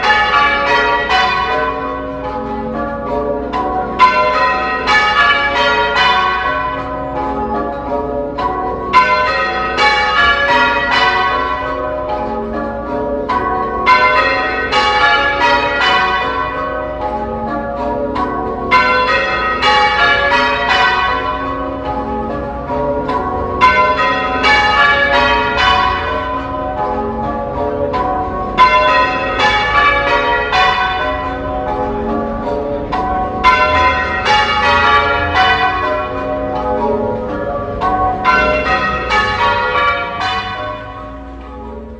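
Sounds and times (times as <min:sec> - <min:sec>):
church bells change ringing: 0:00.0 - 0:41.9.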